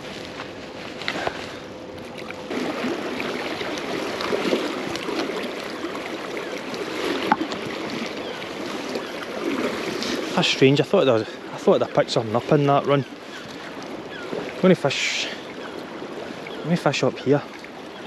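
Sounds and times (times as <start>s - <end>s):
river water splashing: 0.0s - 18.0s.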